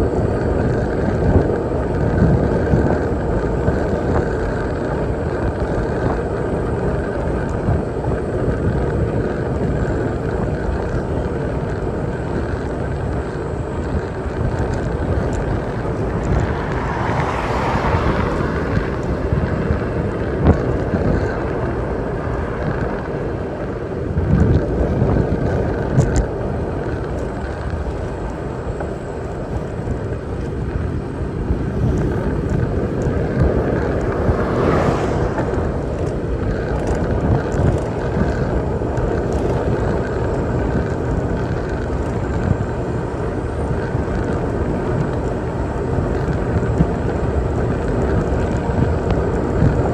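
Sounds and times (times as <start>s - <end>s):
bicycle road noise: 0.0s - 49.9s
wind rushing over microphone: 0.0s - 49.9s.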